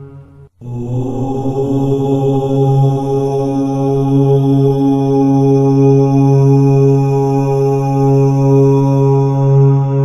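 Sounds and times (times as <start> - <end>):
low chanted drone: 0.0 - 10.0.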